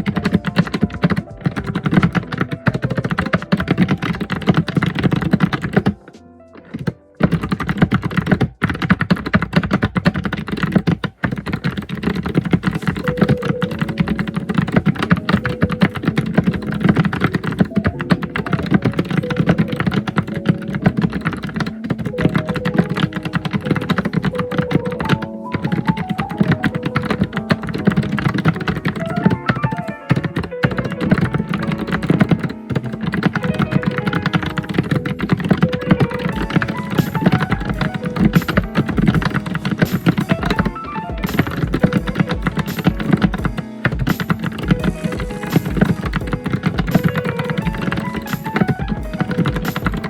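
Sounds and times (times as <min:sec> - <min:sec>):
fast typing on keyboard: 0:00.0 - 0:50.0
melodic music: 0:00.0 - 0:50.0.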